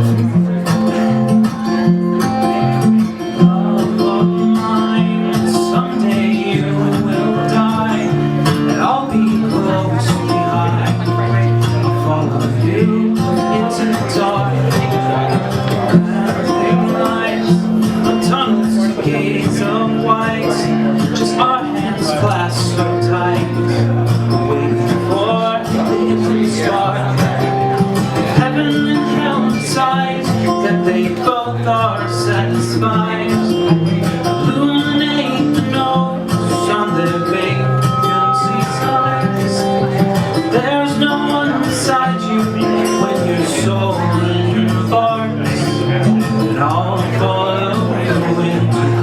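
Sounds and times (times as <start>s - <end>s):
acoustic guitar chords: 0.0s - 49.0s.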